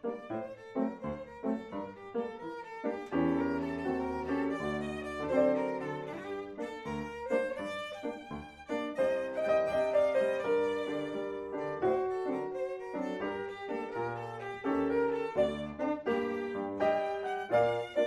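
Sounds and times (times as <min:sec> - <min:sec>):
violin lively melody: 0:00.0 - 0:18.0.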